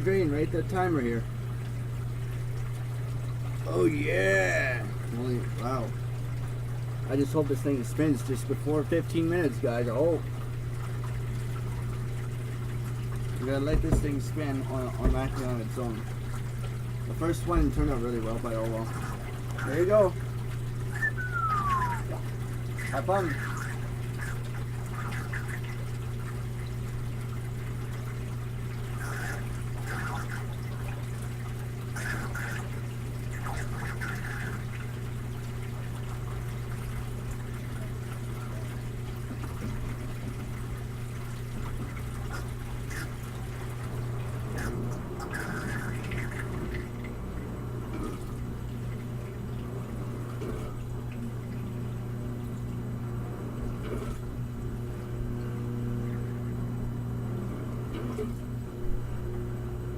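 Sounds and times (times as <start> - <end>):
water gurgling and splashing: 0.0 - 56.7, 57.7 - 58.6
drain pump humming: 0.0 - 59.9.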